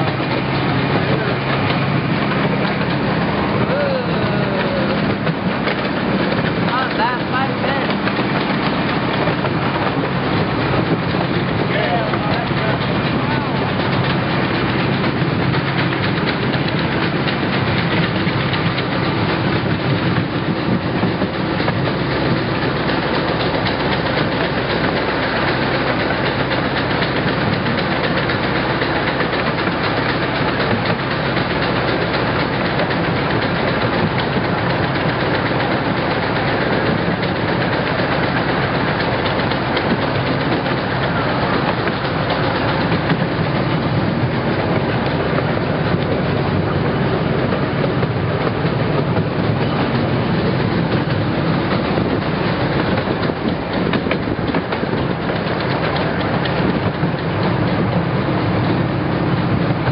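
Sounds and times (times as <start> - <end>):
train cars rattling: 0.0 - 59.9
train wheels on rails: 0.0 - 59.9.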